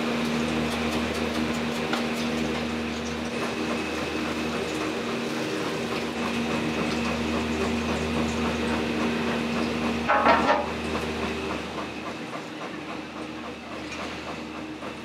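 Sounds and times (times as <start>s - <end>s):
kitchen equipment hum: 0.0s - 14.6s.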